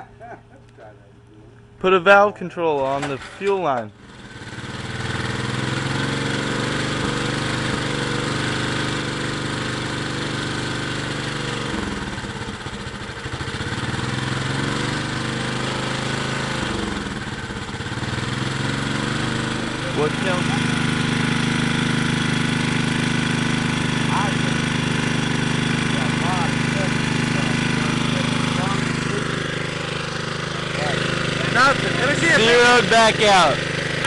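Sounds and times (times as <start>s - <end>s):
small gasoline engine running: 2.9s - 34.0s.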